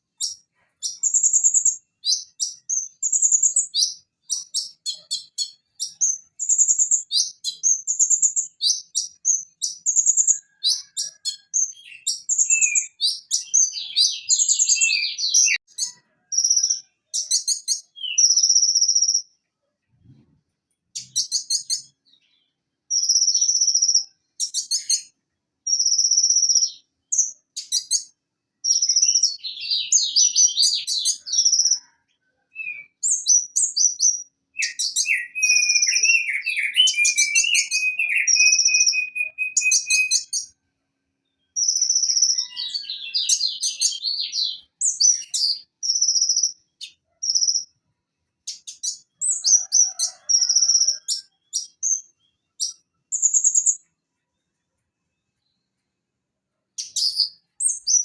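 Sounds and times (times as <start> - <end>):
sunbird singing: 0.0 - 19.3, 21.0 - 40.6, 41.2 - 47.7, 48.4 - 53.9, 56.8 - 58.0.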